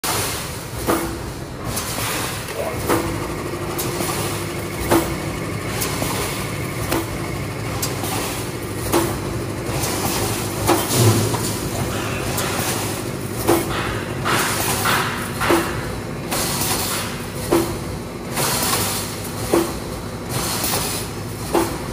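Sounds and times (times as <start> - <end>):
machine clanking: 0.1 - 21.9
steady machine hum: 0.1 - 21.9.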